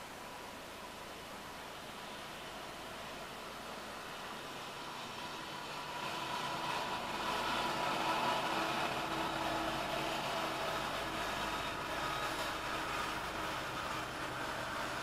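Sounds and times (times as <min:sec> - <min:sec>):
freight train rumble and rail noise: 0:00.0 - 0:15.0.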